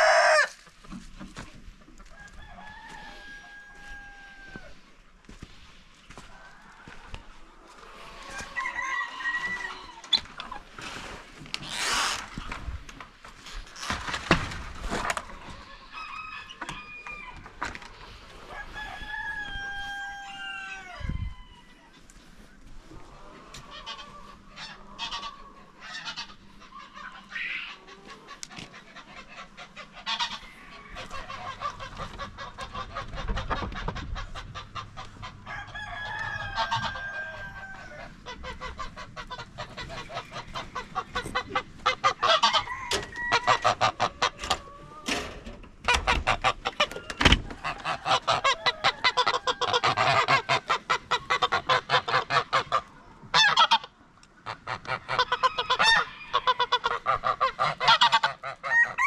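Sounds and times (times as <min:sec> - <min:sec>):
poultry flock calling: 0:00.0 - 0:12.5, 0:14.9 - 0:59.0.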